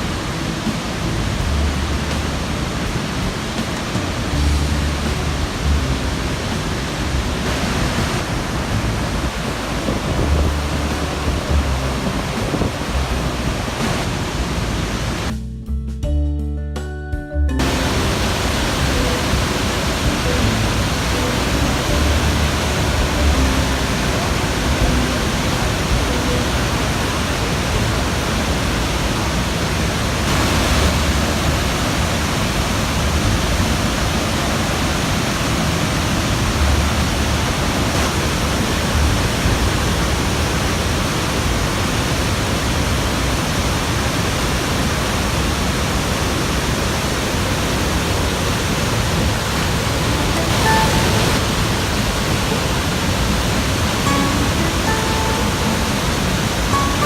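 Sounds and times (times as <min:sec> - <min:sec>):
waterfall roaring: 0:00.0 - 0:15.3, 0:17.6 - 0:57.0
low rumbling: 0:00.0 - 0:43.5, 0:45.6 - 0:57.0.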